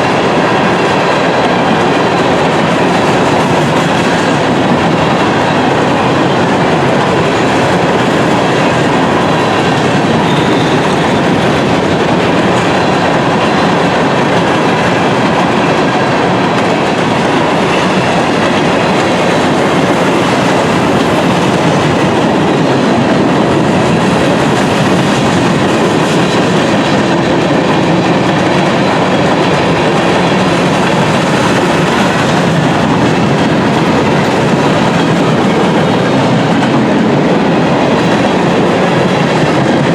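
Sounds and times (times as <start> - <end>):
train cars rolling past: 0.0 - 39.9.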